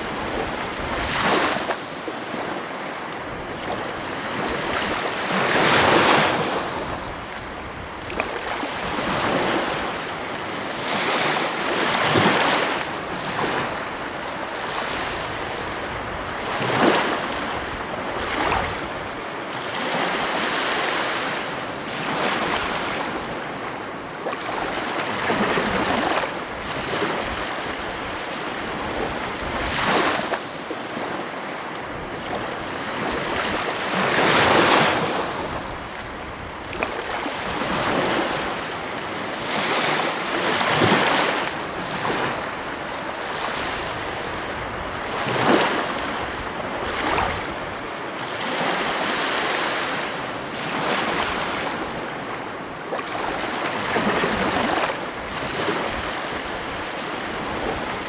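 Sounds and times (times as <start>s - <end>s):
ocean waves crashing: 0.0s - 58.0s.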